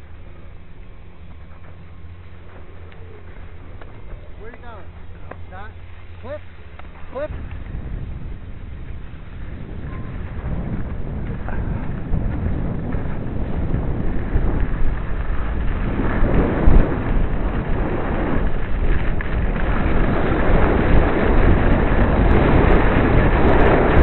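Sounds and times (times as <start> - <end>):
skis scraping over packed snow: 0.0 - 24.0
wind on microphone: 0.0 - 24.0.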